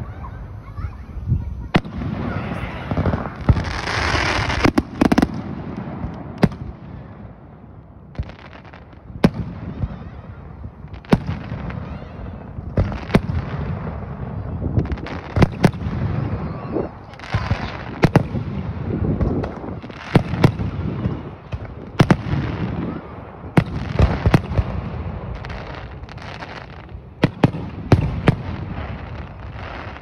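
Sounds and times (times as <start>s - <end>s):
firework bangs: 0.0s - 30.0s.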